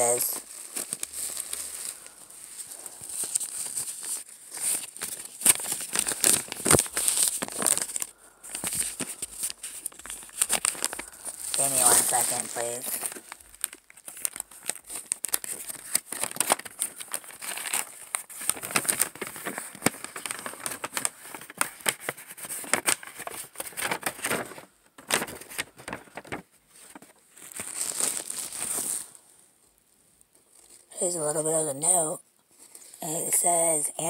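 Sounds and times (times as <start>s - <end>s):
paper and packaging rustling: 0.0s - 29.2s.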